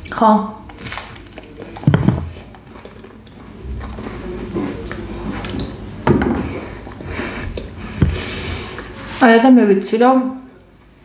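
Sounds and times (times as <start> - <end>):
person chewing bread: 0.0 - 9.0.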